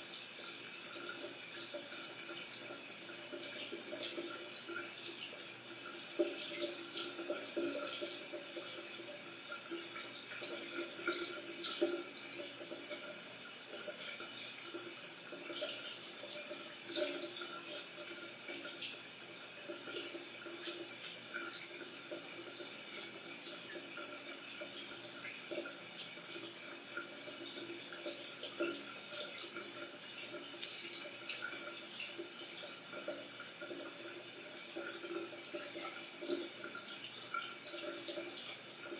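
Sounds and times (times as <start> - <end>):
shower water hissing: 0.0 - 38.9
water splashes and drips: 0.0 - 38.9.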